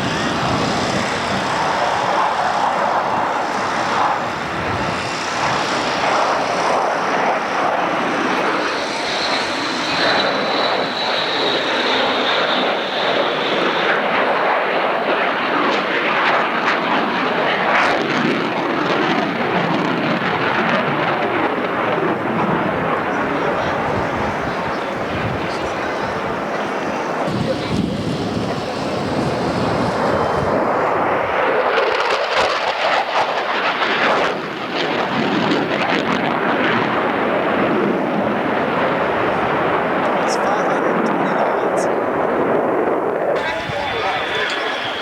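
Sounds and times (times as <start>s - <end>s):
aircraft engines running: 0.0s - 45.0s.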